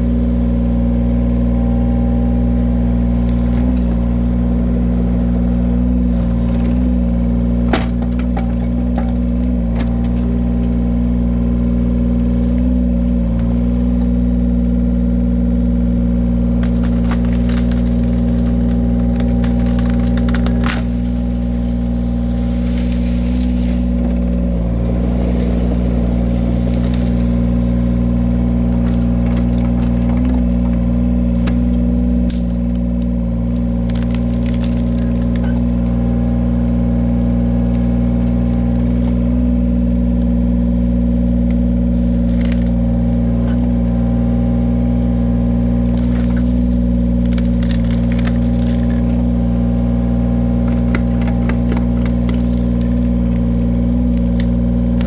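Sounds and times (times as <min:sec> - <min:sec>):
log splitter engine running: 0:00.0 - 0:55.0
logs cracking as split: 0:00.0 - 0:55.0.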